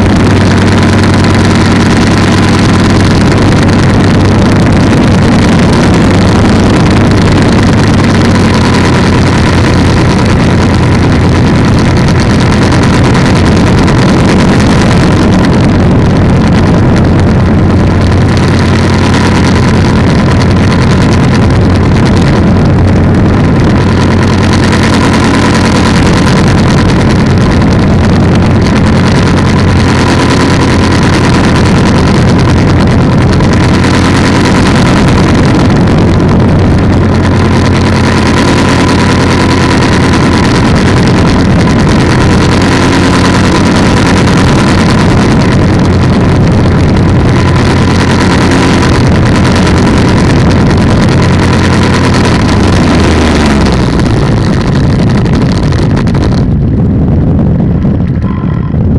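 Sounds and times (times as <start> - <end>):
two-stroke engine running: 0.0 - 58.9.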